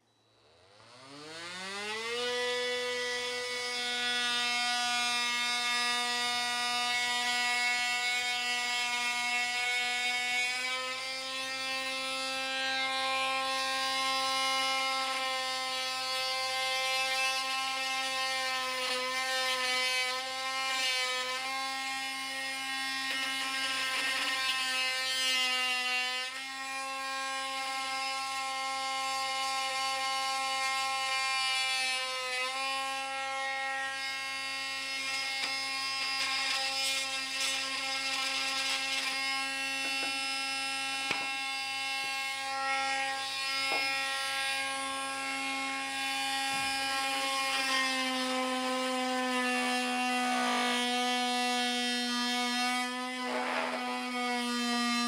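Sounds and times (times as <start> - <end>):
oscillating multi-tool buzzing: 0.0 - 55.0.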